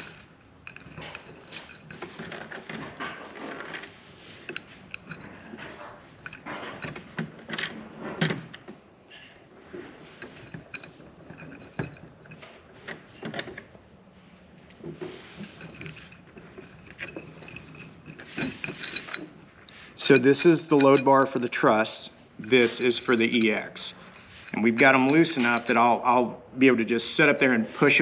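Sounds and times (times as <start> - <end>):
metal bolts clinking and scraping: 0.0 - 28.0.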